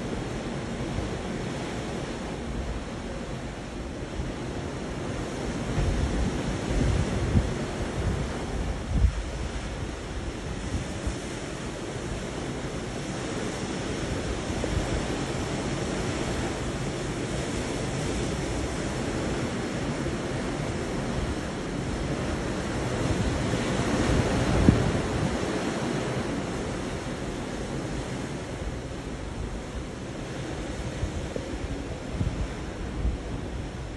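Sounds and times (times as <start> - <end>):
sea rushing: 0.0 - 33.9
wind buffeting microphone: 0.0 - 33.9.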